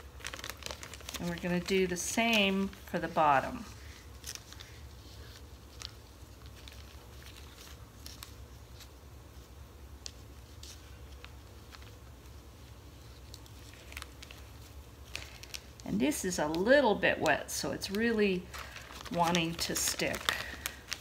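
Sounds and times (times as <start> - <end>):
low steady hum: 0.0 - 21.0
plastic sheet crinkling: 0.0 - 21.0.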